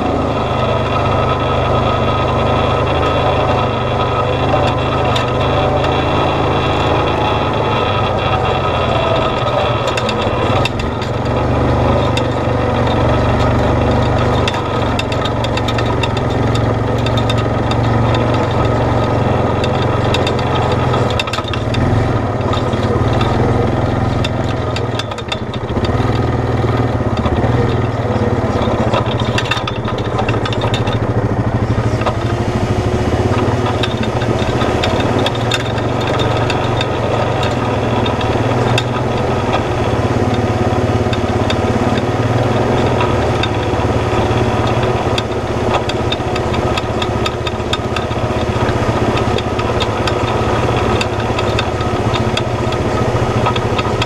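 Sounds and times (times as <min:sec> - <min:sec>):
off-road vehicle engine running: 0:00.0 - 0:54.0
clicks and knocks: 0:00.5 - 0:54.0.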